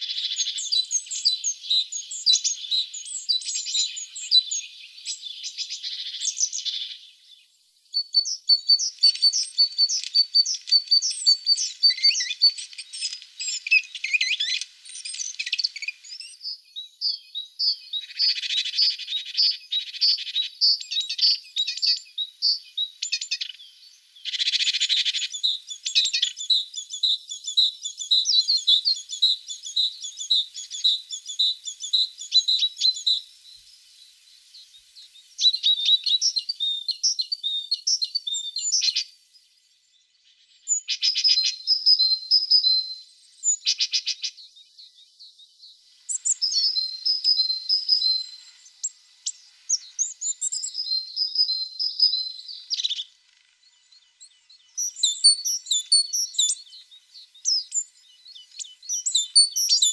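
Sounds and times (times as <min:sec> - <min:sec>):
tits singing and calling: 0:00.0 - 0:59.9.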